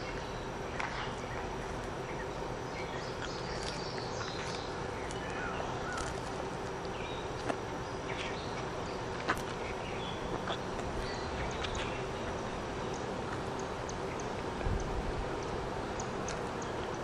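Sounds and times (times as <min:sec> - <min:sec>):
birds chirping: 0:00.0 - 0:17.0
insects buzzing: 0:00.0 - 0:17.0.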